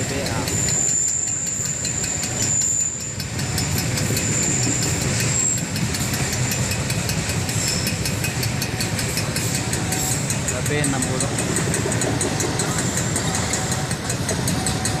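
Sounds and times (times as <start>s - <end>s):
fast regular wheel ticking: 0.0s - 15.0s
freight train wheels rumbling: 0.0s - 15.0s
motorcycle engines idling: 0.0s - 15.0s.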